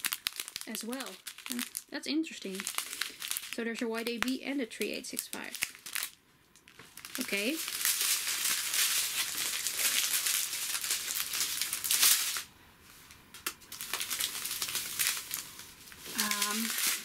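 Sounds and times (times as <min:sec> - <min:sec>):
plastic bags crinkling: 0:00.0 - 0:12.5, 0:13.3 - 0:17.0.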